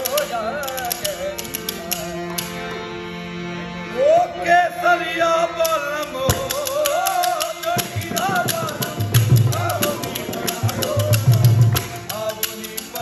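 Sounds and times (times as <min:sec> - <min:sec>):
man singing: 0:00.0 - 0:02.2, 0:03.9 - 0:13.0
harmonium chords: 0:00.0 - 0:13.0.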